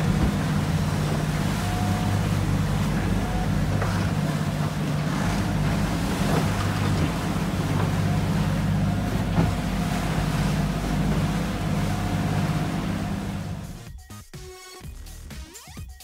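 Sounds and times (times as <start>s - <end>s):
boat engine droning: 0.0s - 13.9s
sea and wind noise: 0.0s - 13.9s.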